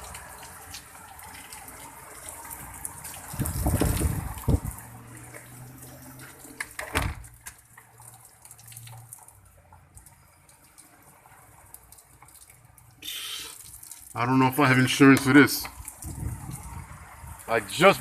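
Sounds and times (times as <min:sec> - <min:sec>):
water trickling and dripping: 0:00.0 - 0:18.0.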